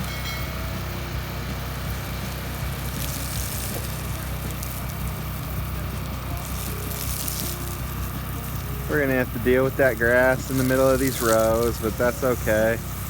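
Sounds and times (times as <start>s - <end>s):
tractor engine idling: 0.0s - 13.0s
water spraying from hose: 0.0s - 13.0s.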